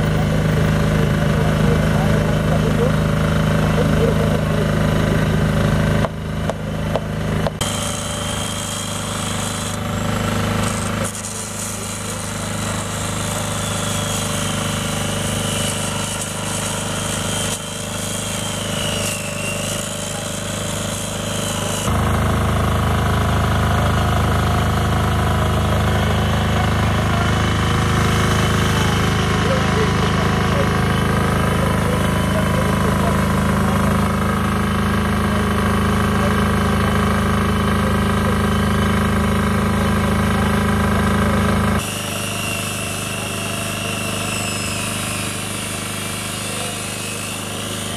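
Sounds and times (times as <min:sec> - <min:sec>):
angle grinder cutting metal: 0:00.0 - 0:47.9
generator humming: 0:00.0 - 0:47.9.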